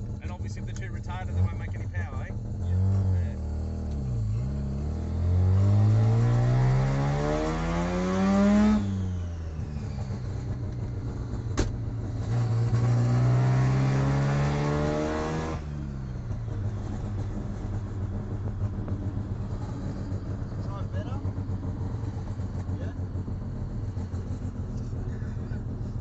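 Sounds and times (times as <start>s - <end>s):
rotary engine revving: 0.0s - 26.0s.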